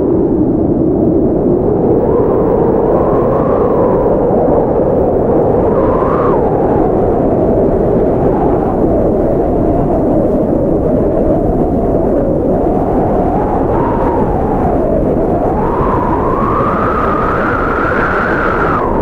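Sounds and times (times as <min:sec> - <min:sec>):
blizzard wind howling: 0:00.0 - 0:19.0.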